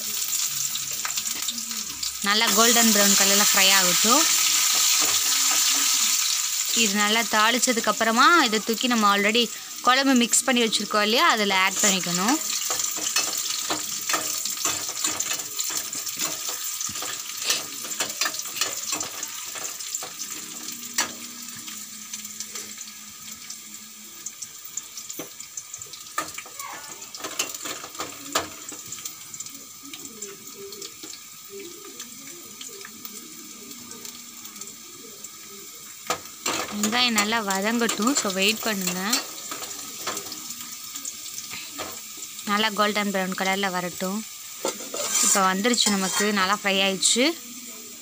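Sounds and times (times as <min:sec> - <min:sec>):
onions and spices sizzling in oil: 0:00.0 - 0:48.0.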